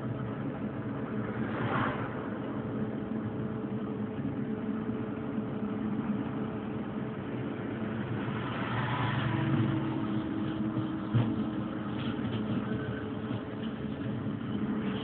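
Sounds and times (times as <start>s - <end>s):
railcar hum and rolling: 0.0s - 15.0s.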